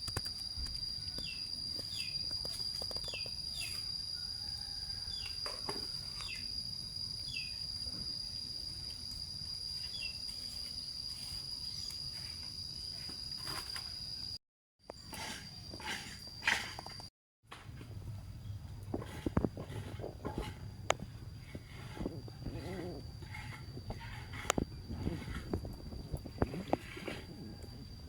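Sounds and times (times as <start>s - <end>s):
insects trilling: 0.0s - 17.1s, 18.4s - 28.0s
low outdoor hum: 0.0s - 28.0s.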